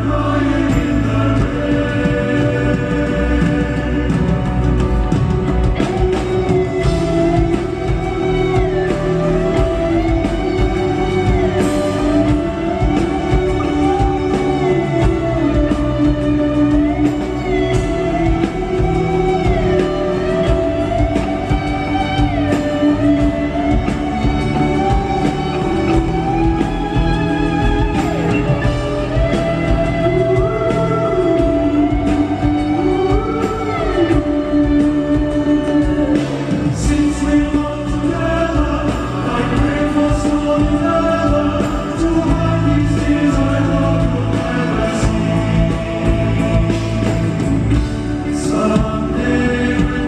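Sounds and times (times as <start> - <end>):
bass and drums: 0.0 - 50.0.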